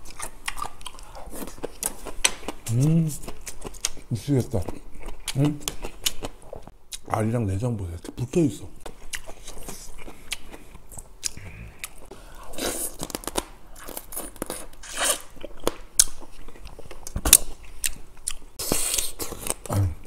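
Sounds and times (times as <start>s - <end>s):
wet chewing and crunching: 0.0s - 7.1s, 8.8s - 19.9s.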